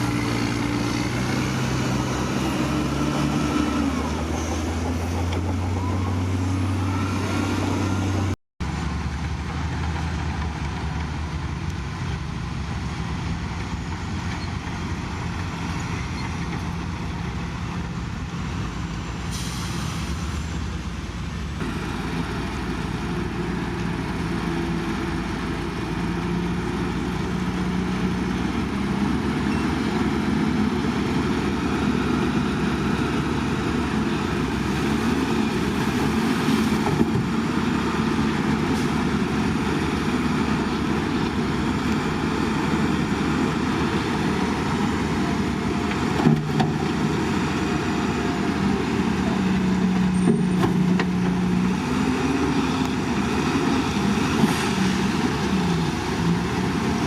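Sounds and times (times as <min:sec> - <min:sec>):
heavy diesel engines revving: 0:00.0 - 0:57.0.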